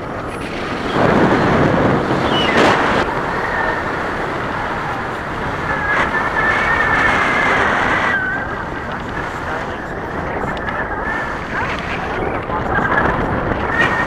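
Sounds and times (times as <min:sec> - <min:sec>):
airflow rushing over microphone: 0:00.0 - 0:14.0.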